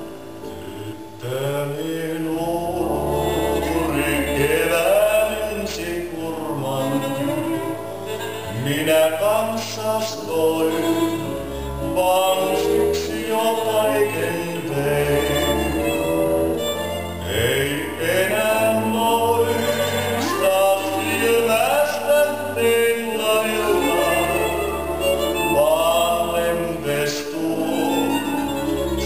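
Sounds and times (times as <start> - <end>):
recorded tango music: 0.0 - 29.0.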